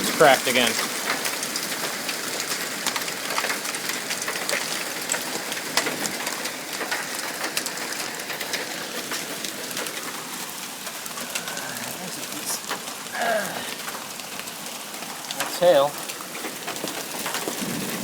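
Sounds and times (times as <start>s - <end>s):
hailstones striking hard surfaces: 0.0s - 18.0s
heavy rain hiss: 0.0s - 18.0s.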